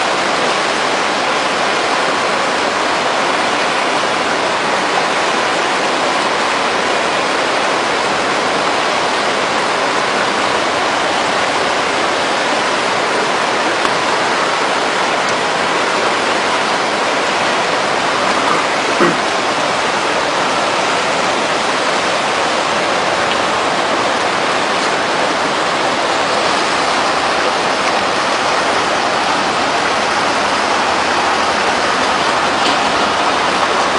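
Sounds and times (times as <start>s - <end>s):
rush of wind and water: 0.0s - 33.9s.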